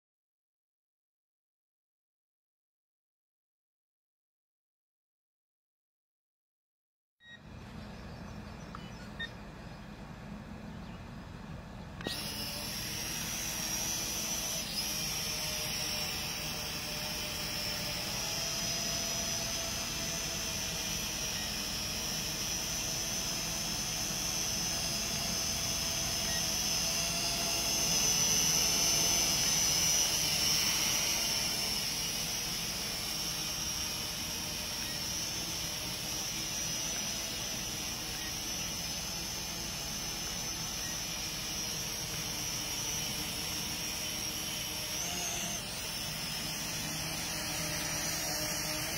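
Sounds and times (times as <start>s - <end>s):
drone rotors whining: 7.2s - 48.9s.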